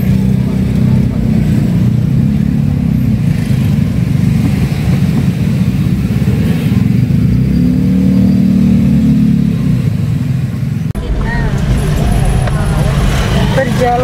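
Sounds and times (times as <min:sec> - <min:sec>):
car engine rumbling: 0:00.0 - 0:14.0
road noise: 0:00.0 - 0:14.0.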